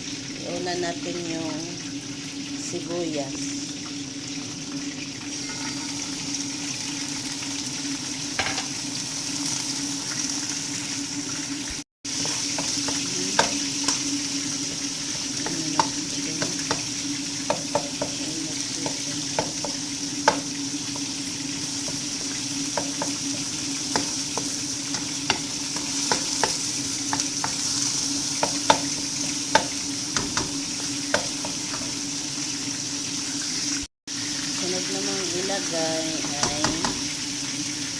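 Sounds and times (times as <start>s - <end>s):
onion sizzling in hot oil: 0.0s - 37.9s.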